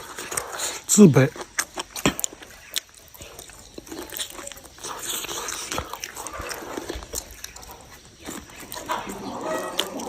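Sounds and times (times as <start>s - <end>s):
person chewing and crunching: 0.0s - 10.0s.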